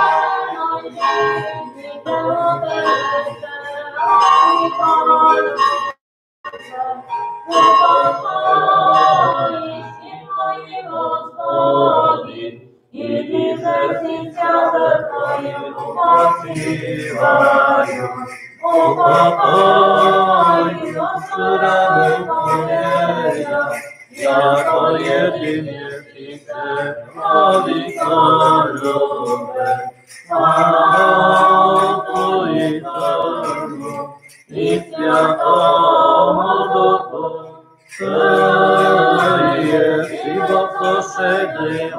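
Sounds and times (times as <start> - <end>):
unaccompanied church chanting: 0.0 - 41.9.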